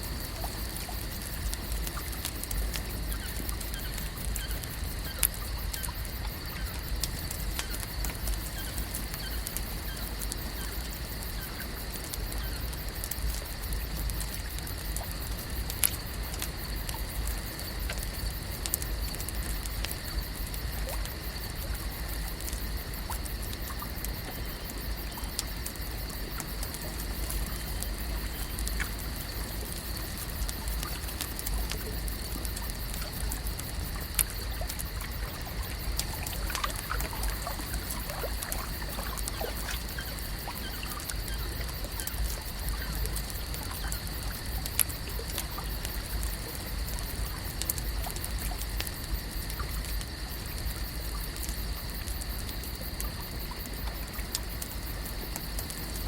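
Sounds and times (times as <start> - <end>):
water gently trickling: 0.0 - 48.8
faint clicks: 0.2 - 56.0.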